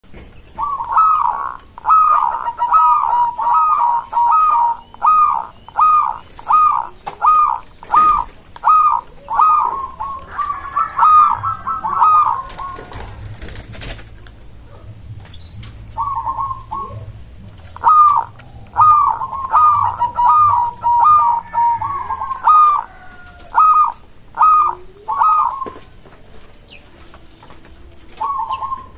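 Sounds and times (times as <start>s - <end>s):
dove cooing: 0.5s - 28.9s.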